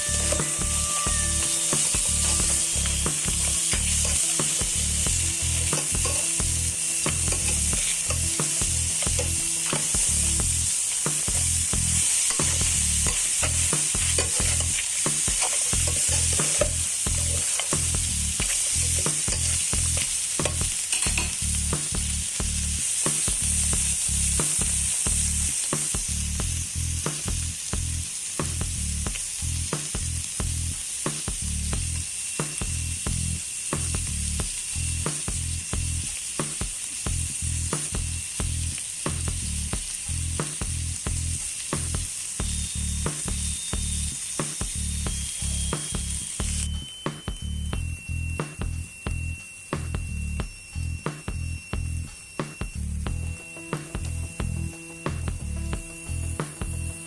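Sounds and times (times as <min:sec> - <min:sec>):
crabs sizzling in a pan: 0:00.0 - 0:57.0.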